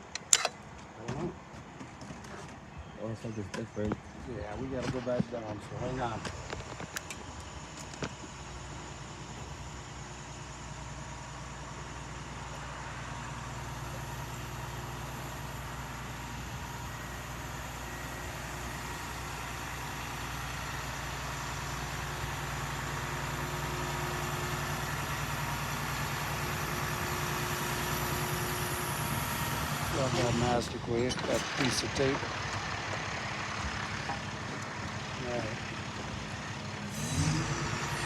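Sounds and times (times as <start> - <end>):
truck engine running: 3.0 - 38.0.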